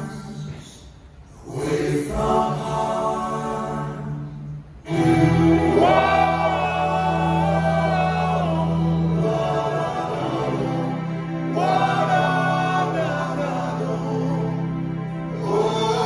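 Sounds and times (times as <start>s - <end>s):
voices singing harmony: 0.0s - 16.0s.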